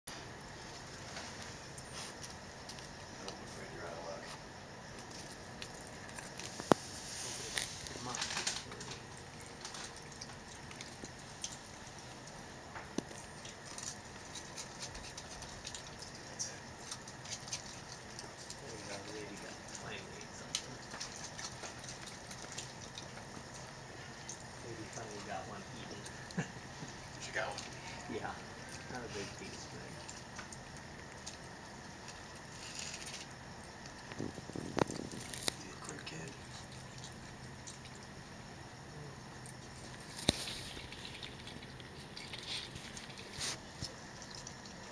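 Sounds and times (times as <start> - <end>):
animals chewing crunchy food: 0.2 - 44.9.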